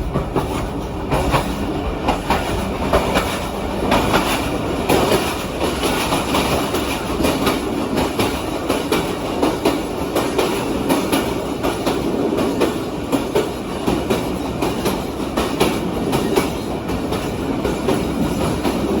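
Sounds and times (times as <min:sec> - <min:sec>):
train rumbling on rails: 0:00.0 - 0:19.0
wheels clicking over rail joints: 0:00.0 - 0:19.0.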